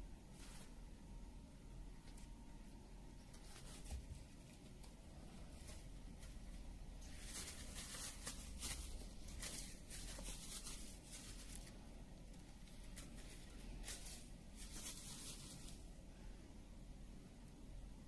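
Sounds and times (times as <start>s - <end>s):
low room hum: 0.0s - 18.0s
faint scratching and rustling: 0.2s - 1.0s, 1.9s - 16.3s.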